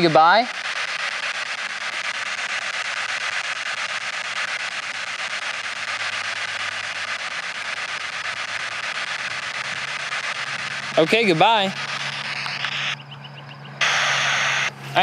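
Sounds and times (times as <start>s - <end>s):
radio static with fast flutter: 0.0s - 15.0s.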